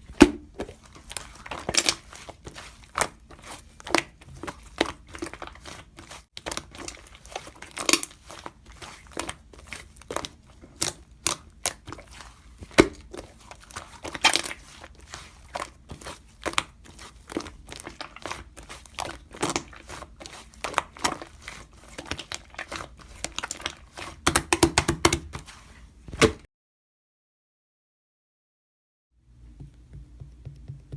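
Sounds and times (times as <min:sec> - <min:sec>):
slime squished by hand crackling: 0:00.5 - 0:26.4.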